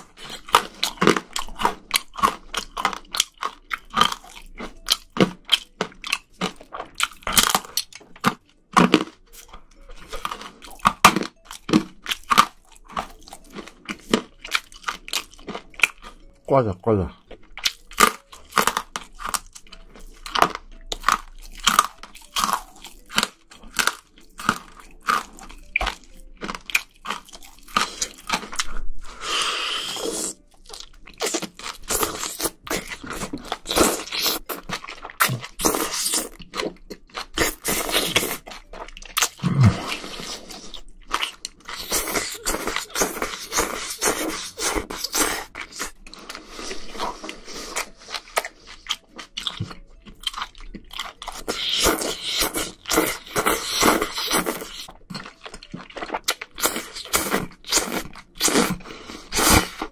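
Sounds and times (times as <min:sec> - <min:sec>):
wet chewing and crunching: 0:00.0 - 0:59.9.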